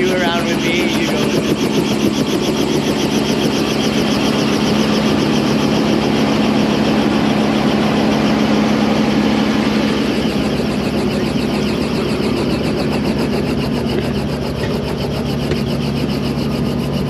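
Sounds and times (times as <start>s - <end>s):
helicopter engine: 0.0s - 17.0s
helicopter rotor beat: 0.0s - 17.0s.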